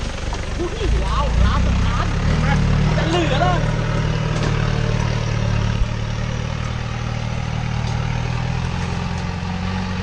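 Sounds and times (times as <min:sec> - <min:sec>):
truck engine at low revs: 0:00.0 - 0:10.0.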